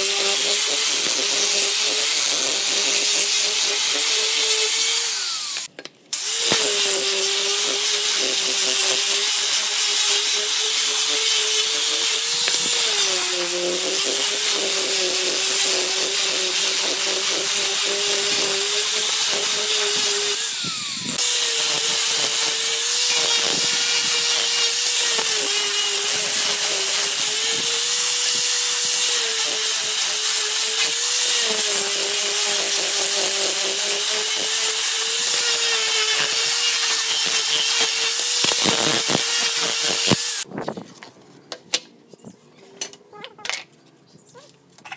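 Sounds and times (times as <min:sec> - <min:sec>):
angle grinder sanding wood: 0:00.0 - 0:40.5.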